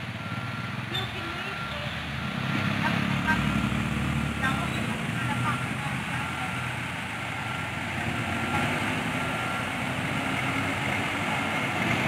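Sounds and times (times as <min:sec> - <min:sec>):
road noise: 0:00.0 - 0:12.0
truck engines rumbling: 0:00.0 - 0:12.0.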